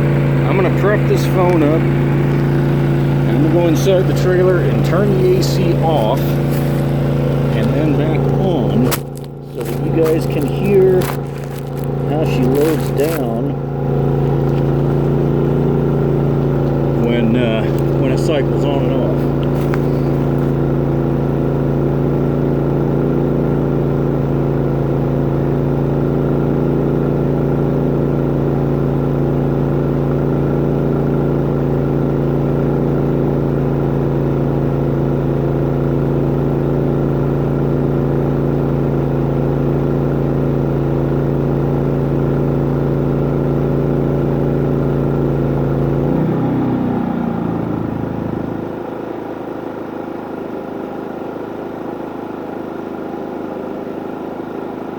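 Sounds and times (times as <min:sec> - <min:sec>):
generator engine running: 0:00.0 - 0:54.9.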